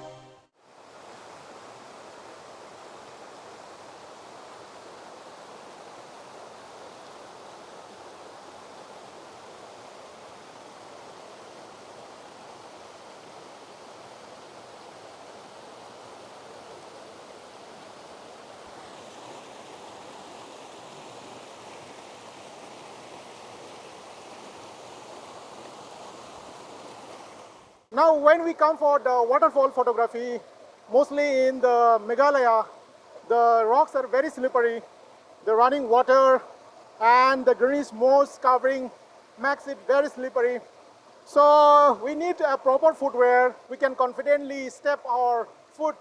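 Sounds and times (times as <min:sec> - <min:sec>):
waterfall water rushing: 0:00.0 - 0:46.0.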